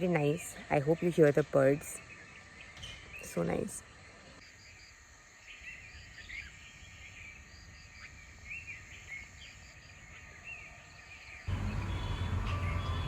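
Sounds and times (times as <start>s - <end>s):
birds chirping: 0.0s - 4.4s, 5.5s - 13.0s.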